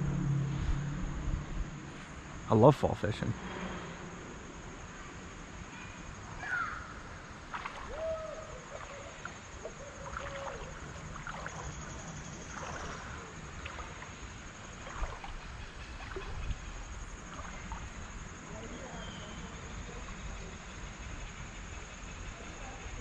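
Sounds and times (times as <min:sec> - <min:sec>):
faint moving water: 0:00.0 - 0:23.0
high-pitched insect trill: 0:03.4 - 0:23.0.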